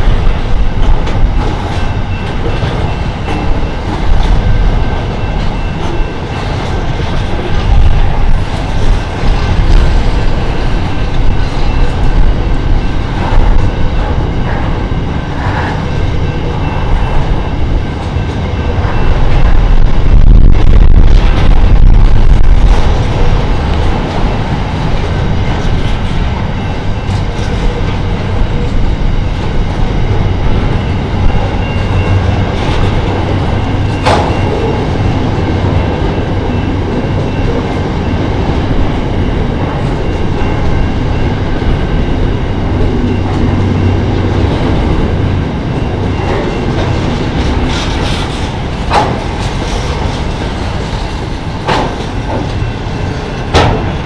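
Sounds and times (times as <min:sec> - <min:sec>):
freight wagons rumbling on rails: 0:00.0 - 0:54.0.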